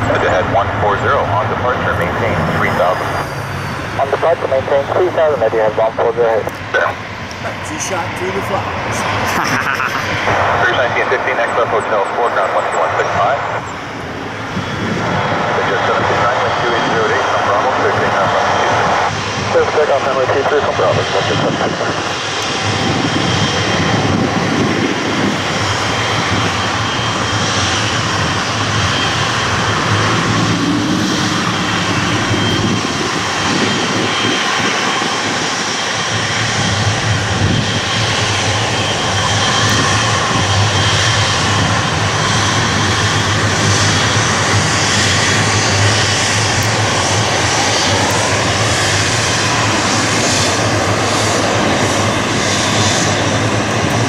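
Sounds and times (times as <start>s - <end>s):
jet engine rumble with fan whine: 0.0s - 54.0s.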